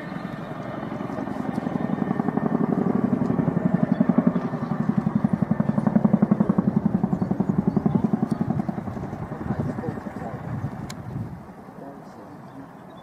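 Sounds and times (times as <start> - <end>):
helicopter rotor beating: 0.0 - 12.8.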